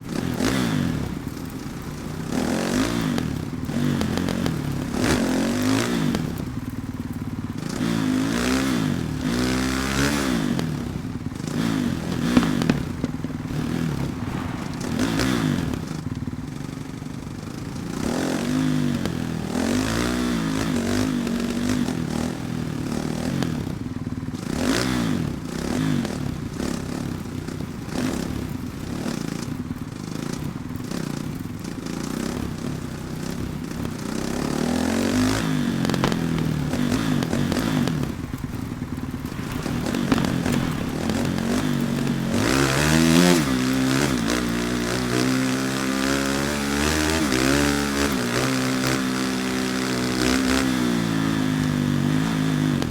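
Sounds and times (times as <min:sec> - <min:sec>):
dirt bike engine revving: 0:00.0 - 0:29.6, 0:30.2 - 0:52.9.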